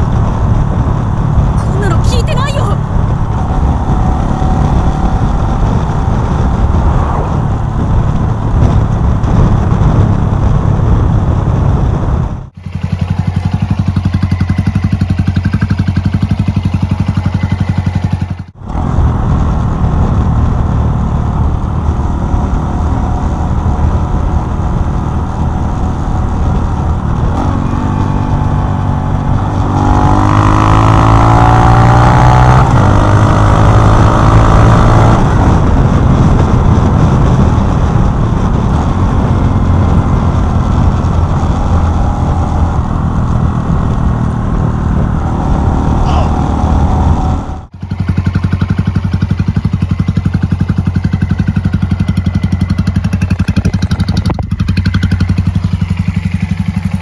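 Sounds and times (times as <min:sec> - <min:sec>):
wind noise on microphone: 0:00.0 - 0:15.1, 0:17.9 - 0:57.0
motorcycle engine running: 0:00.0 - 0:57.0.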